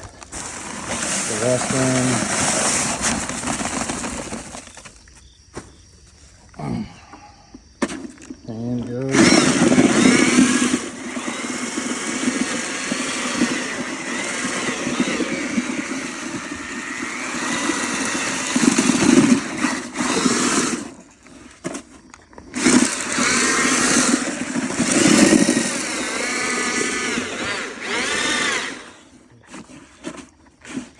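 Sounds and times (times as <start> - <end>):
drill mixing cement: 0.0 - 5.0, 7.9 - 30.9.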